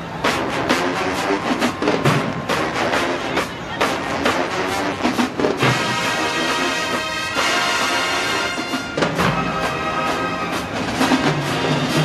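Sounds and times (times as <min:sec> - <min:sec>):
heavy low brass: 0:00.0 - 0:12.0
brass sustained chords: 0:00.3 - 0:12.0.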